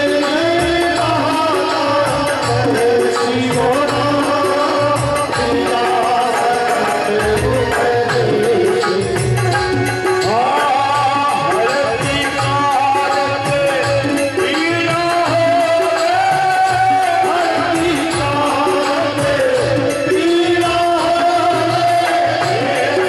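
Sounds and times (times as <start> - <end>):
hand drum rhythm: 0.0 - 23.0
man singing: 0.0 - 23.0.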